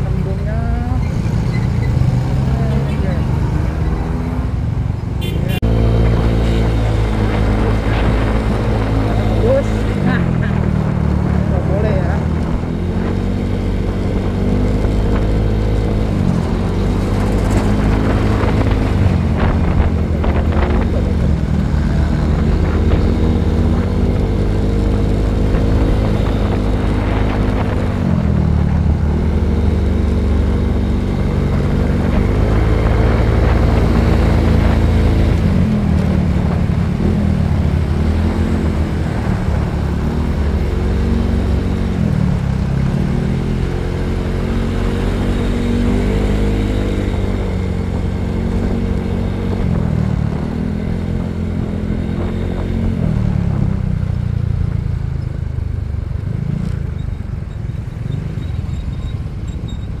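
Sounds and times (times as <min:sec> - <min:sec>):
motorcycle engine revving: 0:00.0 - 1:00.0
wind rumble on microphone: 0:00.0 - 1:00.0.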